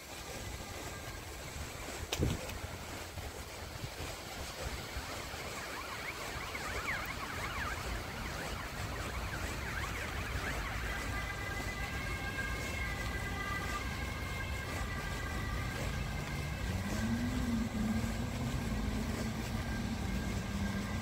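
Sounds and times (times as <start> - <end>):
distant city traffic rumble: 0.0 - 21.0
low wavering engine hum: 0.0 - 21.0
siren-like high tone: 0.1 - 21.0.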